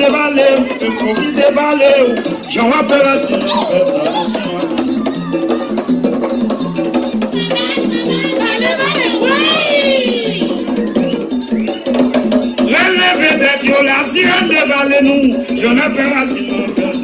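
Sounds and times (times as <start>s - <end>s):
rhythmic percussion accompaniment: 0.0s - 17.0s
voices singing: 0.0s - 17.0s.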